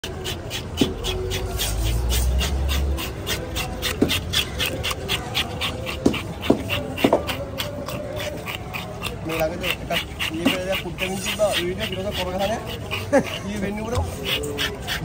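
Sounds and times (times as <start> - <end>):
animal panting: 0.0 - 15.0
animal squeaks: 0.0 - 15.0.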